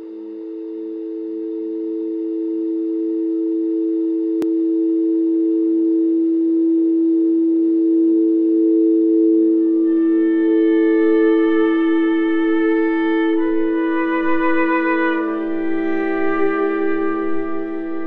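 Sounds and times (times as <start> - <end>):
low droning music: 0.0 - 18.0.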